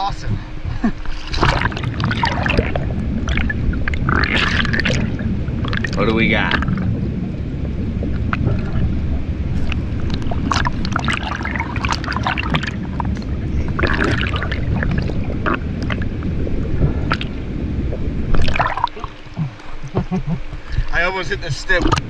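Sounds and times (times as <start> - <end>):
muffled underwater water rush: 0.0 - 22.0.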